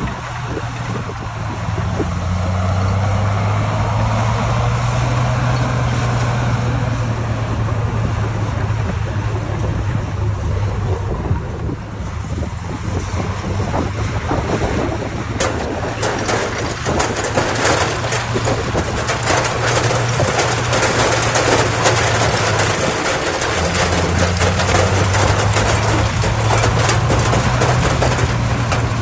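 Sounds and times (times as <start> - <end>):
dense crackling clatter: 0.0 - 29.0
heavy diesel engine running: 0.0 - 29.0.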